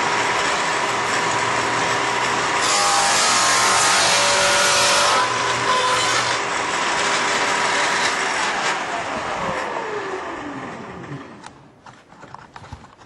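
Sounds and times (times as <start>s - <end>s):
table saw running and coasting down: 0.0s - 11.8s.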